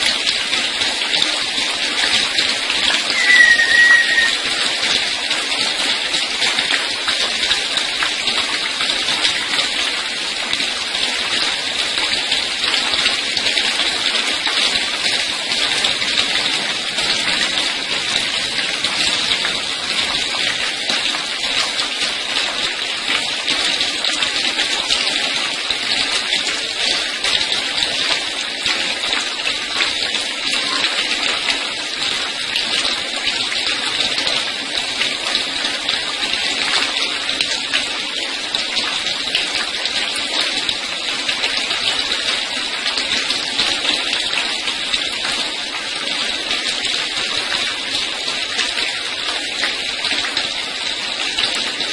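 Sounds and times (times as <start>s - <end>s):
water spraying like rain: 0.0s - 51.9s.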